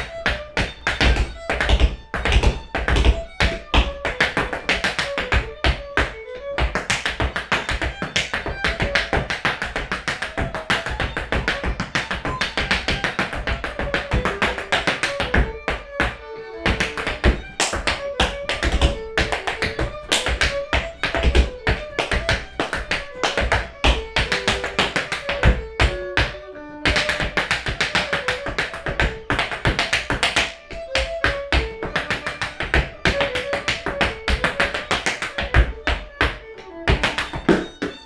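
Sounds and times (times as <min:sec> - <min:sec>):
dance shoes tapping on wooden floor: 0:00.0 - 0:38.0.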